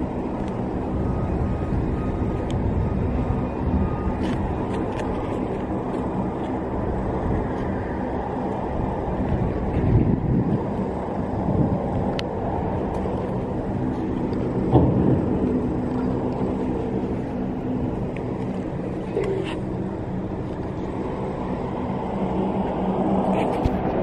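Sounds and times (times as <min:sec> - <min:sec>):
low rumble with constant hum: 0:00.0 - 0:24.0.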